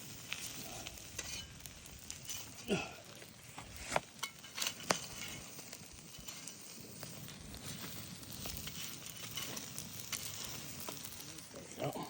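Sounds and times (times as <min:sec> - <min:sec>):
campfire crackling: 0:00.0 - 0:12.0
fire sharp pops: 0:00.0 - 0:12.0.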